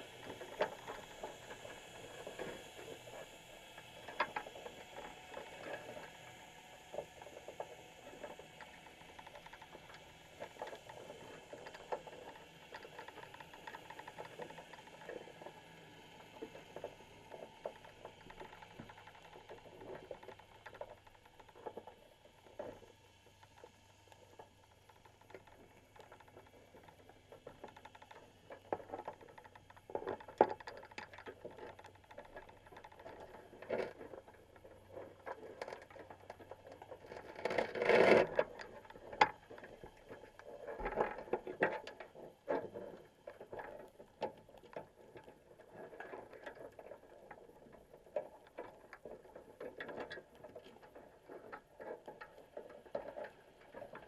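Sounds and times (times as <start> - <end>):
crabs scraping wire mesh underwater: 0.0 - 54.0.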